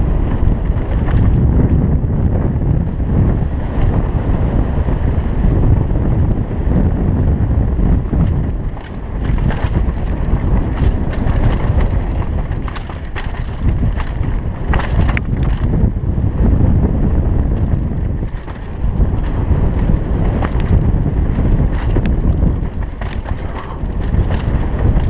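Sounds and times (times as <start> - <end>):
bike rattling over rocky dirt: 0.0 - 25.0
wind buffeting microphone: 0.0 - 25.0.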